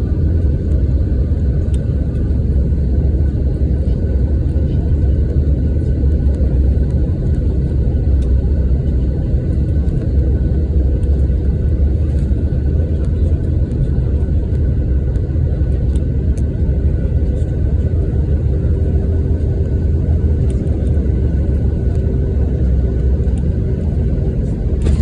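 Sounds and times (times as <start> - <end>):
airliner low rumble: 0.0 - 25.0.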